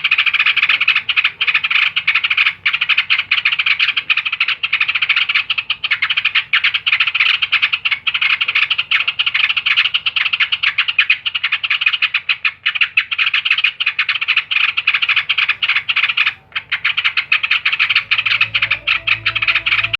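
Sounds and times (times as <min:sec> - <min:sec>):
bulbul chattering: 0:00.0 - 0:19.9.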